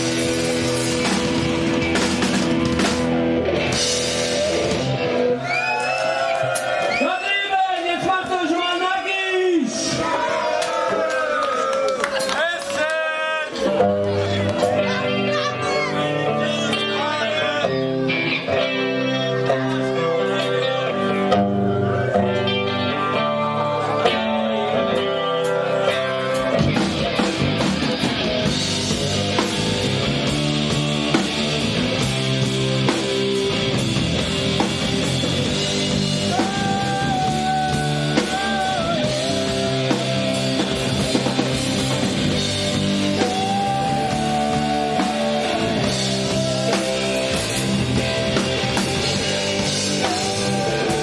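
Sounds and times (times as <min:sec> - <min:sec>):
electric guitar: 0:00.0 - 0:07.0, 0:13.5 - 0:51.0
rock band playing: 0:00.0 - 0:11.2, 0:12.0 - 0:51.0.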